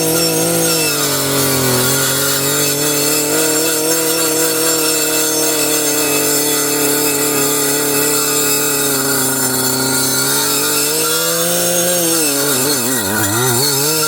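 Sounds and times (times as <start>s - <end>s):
gas-powered circular saw running: 0.0s - 14.0s.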